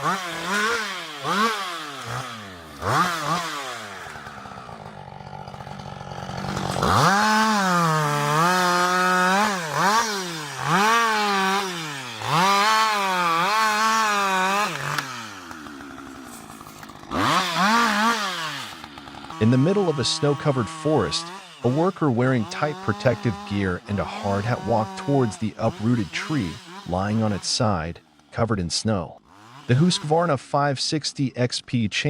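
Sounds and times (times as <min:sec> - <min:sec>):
chainsaw revving and cutting wood: 0:00.0 - 0:31.5.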